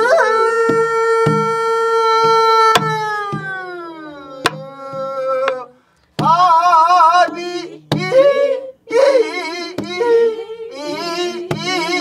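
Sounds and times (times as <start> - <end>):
person singing with wavering notes: 0.0 - 12.0.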